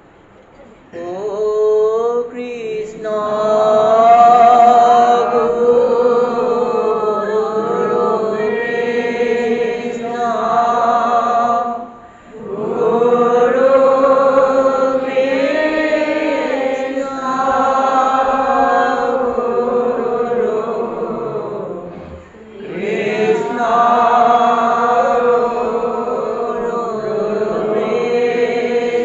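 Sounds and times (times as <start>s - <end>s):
devotional chanting: 0.8s - 29.0s.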